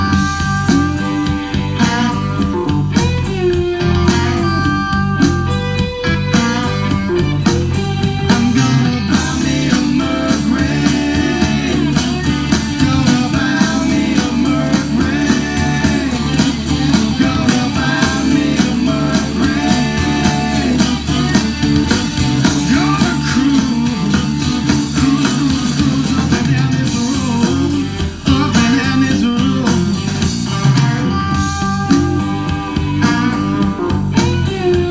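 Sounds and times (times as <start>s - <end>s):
blues-rock music with guitar: 0.0s - 34.9s.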